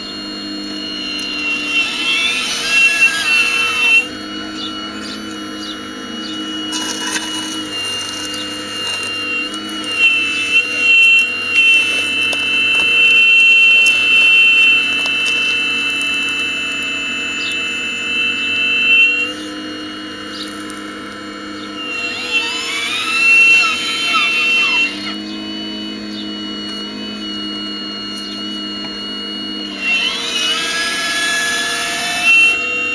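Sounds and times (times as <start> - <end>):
high-pitched motor whine: 0.0 - 32.9.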